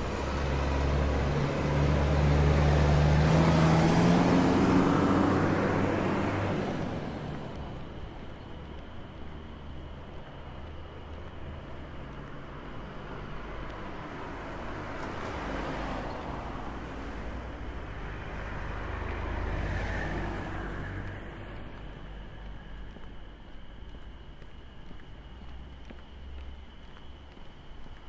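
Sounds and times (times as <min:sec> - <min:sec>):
cars passing on road: 0:00.0 - 0:28.0.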